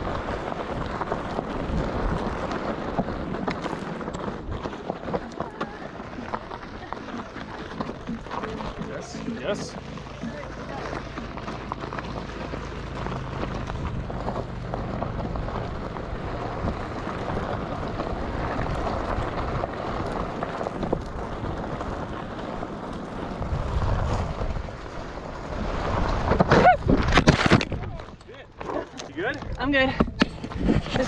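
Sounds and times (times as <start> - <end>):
tyre crunching over gravel: 0.0 - 31.0
wind buffeting microphone: 0.0 - 31.0.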